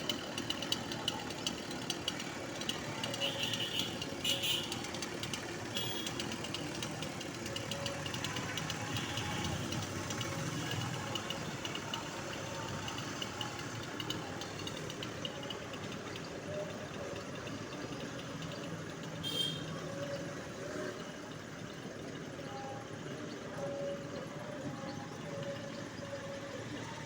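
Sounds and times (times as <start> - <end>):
engine running at low speed: 0.0 - 27.0.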